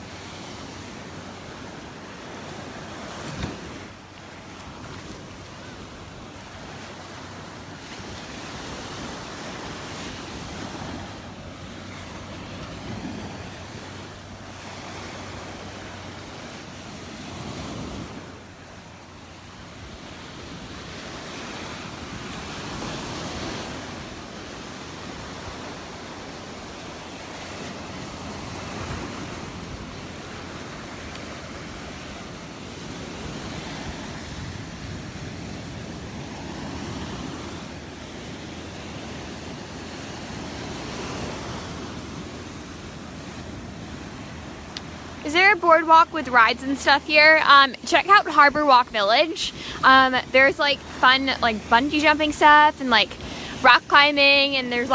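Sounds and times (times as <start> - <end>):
surf breaking on beach: 0.0 - 54.9.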